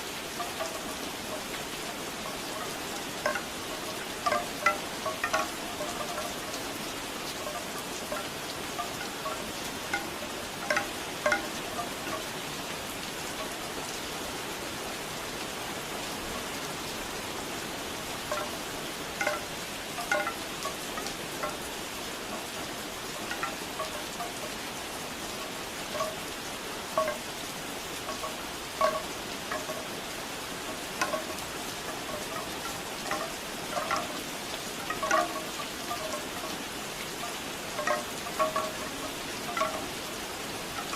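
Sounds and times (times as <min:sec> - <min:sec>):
bamboo wind chimes clacking: 0:00.0 - 0:15.0, 0:15.6 - 0:40.9
steady rain: 0:00.0 - 0:40.9.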